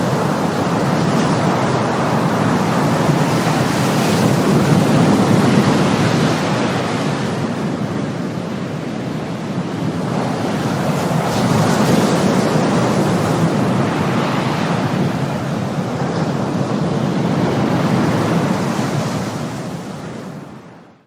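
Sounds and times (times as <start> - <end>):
waves washing on shore: 0.0 - 20.8.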